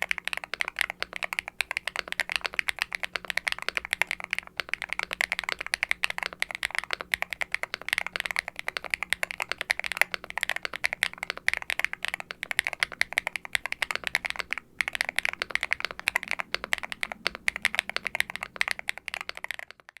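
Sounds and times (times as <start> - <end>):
fast typing on mechanical keyboard: 0.0 - 20.0.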